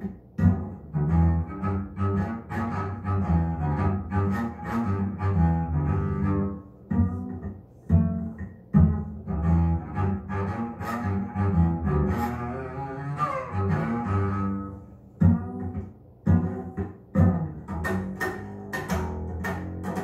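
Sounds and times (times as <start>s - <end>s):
double bass jazz over loudspeakers: 0.0s - 20.0s.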